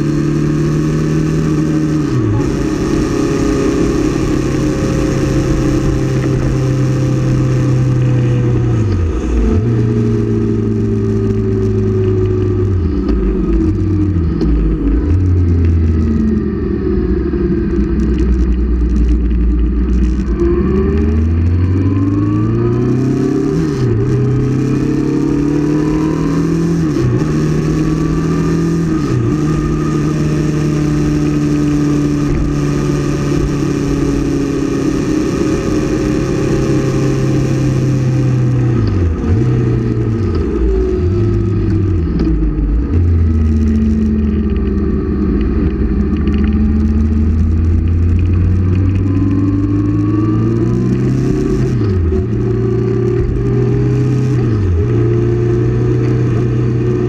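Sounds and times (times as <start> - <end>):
motorcycle engine revving: 0.0 - 57.0
wind noise: 0.0 - 57.0.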